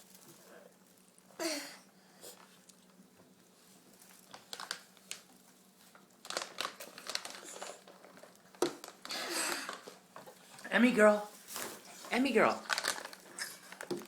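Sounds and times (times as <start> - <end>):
light crinkling rustle: 0.0 - 1.3, 2.2 - 14.0.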